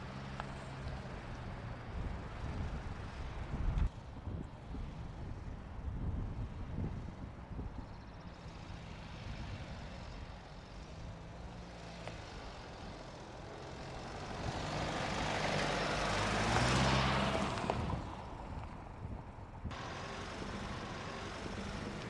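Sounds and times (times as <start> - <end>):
diesel engine at low revs: 0.0 - 22.0.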